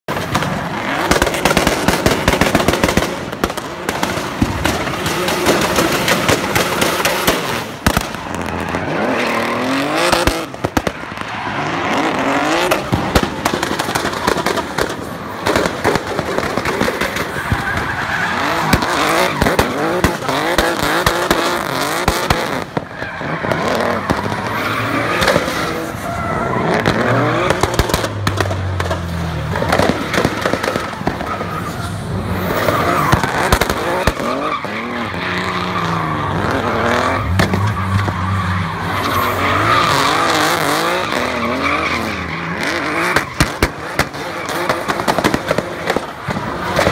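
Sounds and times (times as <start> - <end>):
exhaust pops and bangs: 0.1 - 8.8, 10.0 - 26.0, 26.7 - 31.7, 32.4 - 35.6, 36.3 - 38.5, 43.0 - 46.9
car engine revving: 0.1 - 46.9
tyres squealing and skidding: 0.1 - 46.9.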